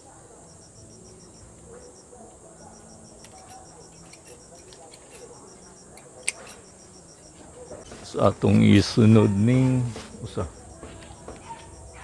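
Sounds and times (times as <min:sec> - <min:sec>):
crickets chirping: 0:00.0 - 0:12.0
high insect drone: 0:00.0 - 0:12.0.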